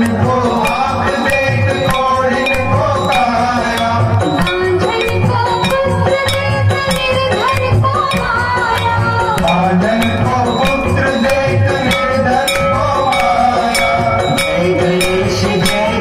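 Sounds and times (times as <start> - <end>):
percussion strikes: 0.0 - 16.0
person singing a devotional song: 0.0 - 16.0.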